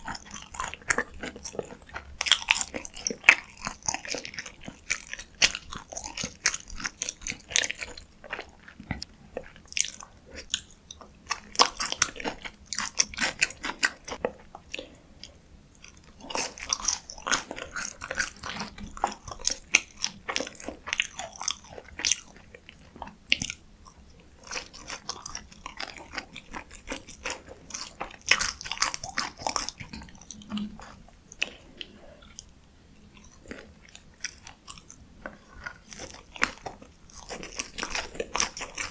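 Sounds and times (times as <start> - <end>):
crisp chewing and crunching: 0.0 - 38.9.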